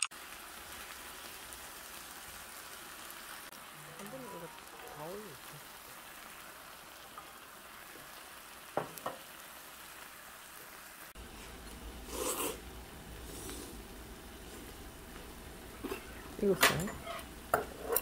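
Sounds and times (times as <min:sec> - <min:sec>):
meat sizzling on a griddle: 0:00.0 - 0:18.0.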